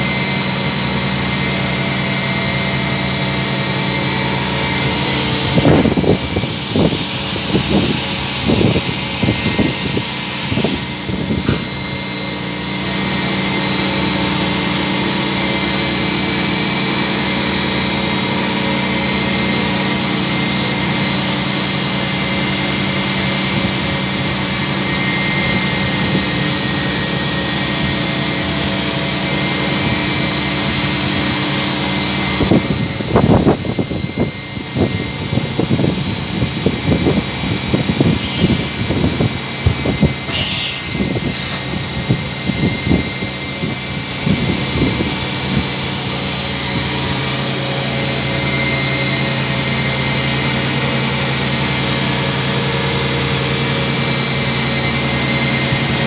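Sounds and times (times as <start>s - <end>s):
machining centre humming: 0.0s - 56.0s.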